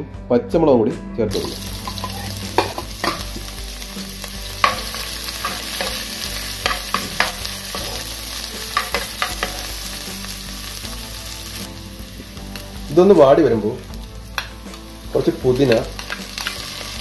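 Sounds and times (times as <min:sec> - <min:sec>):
vegetables sizzling in fat: 0:01.3 - 0:17.0.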